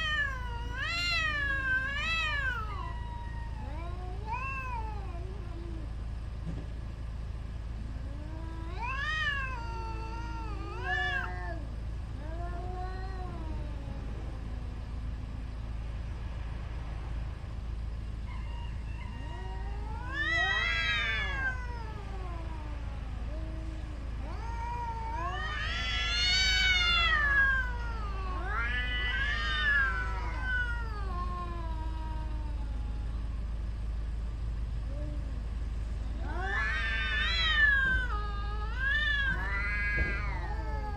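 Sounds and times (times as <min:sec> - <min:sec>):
cats yowling: 0:00.0 - 0:06.2, 0:07.8 - 0:15.5, 0:18.2 - 0:33.8, 0:34.8 - 0:40.9.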